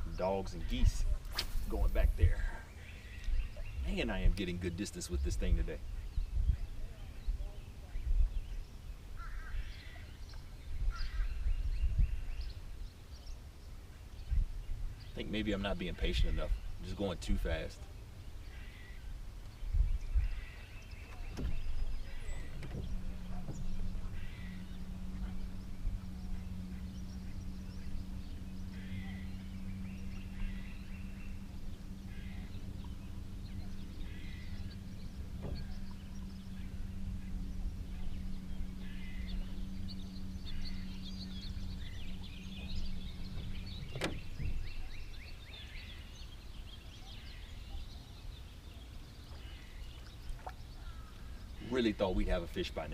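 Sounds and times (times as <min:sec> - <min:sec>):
birds calling: 0:00.0 - 0:52.9
steady low hum: 0:00.0 - 0:52.9.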